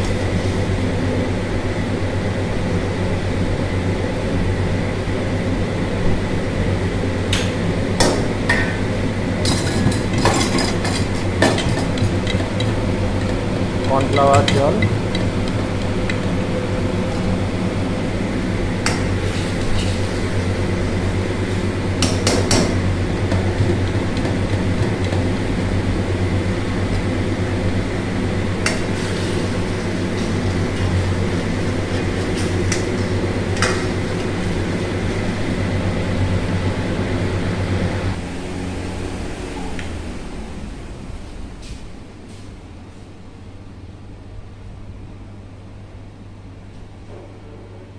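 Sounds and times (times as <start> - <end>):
gas burner roaring: 0.0 - 47.9.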